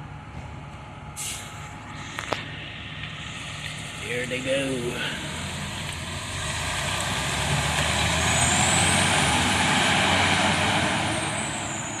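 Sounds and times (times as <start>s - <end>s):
fire engine driving past: 1.0s - 12.0s.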